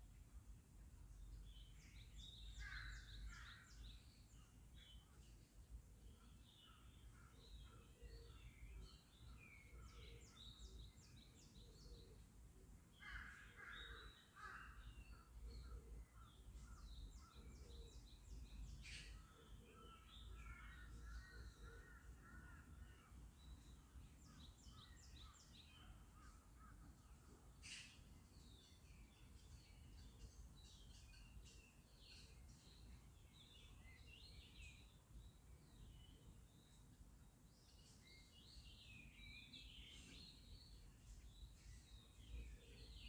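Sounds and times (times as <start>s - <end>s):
small birds chirping and trilling: 0.4s - 43.0s.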